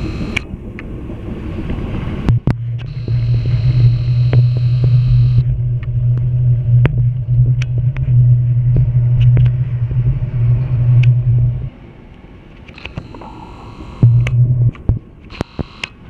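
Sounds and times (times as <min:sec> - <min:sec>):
quiet train rumble: 0:00.0 - 0:16.0
train drone: 0:00.0 - 0:16.0.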